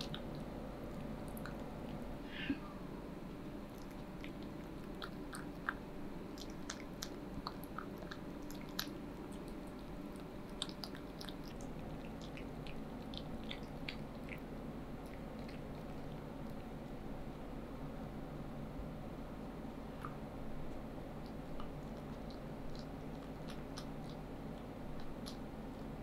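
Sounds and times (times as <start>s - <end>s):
cat chewing and licking: 0.0s - 2.2s, 3.4s - 18.2s, 19.8s - 26.0s.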